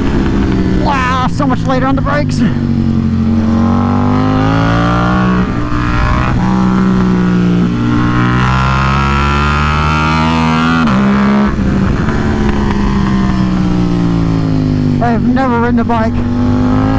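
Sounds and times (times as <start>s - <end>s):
motorcycle engine running hard: 0.0s - 16.9s.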